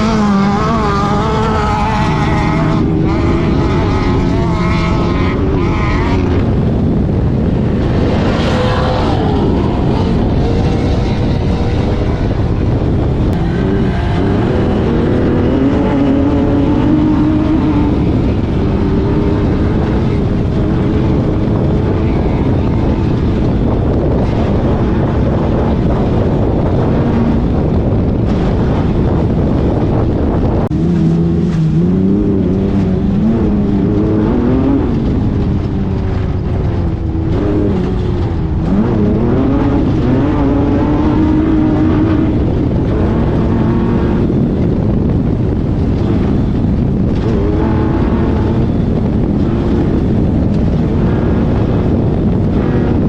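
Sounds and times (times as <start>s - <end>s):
loud steady rushing noise: 0.0s - 53.0s
race car engine revving: 0.0s - 53.0s.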